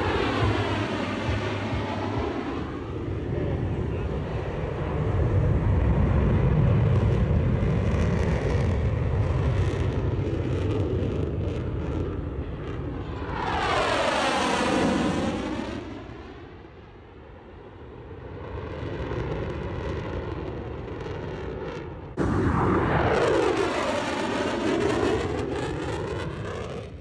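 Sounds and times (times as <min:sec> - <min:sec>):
jet engines passing overhead: 0:00.0 - 0:27.0.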